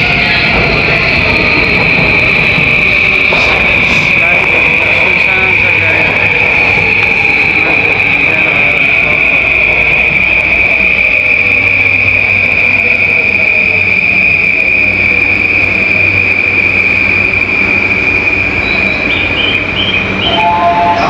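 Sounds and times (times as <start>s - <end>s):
train brakes squealing: 0.0s - 21.0s
train motor whine: 0.0s - 21.0s.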